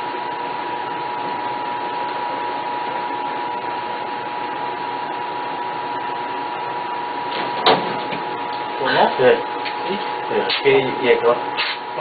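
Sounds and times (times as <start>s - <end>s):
constant high whine: 0.0s - 12.0s.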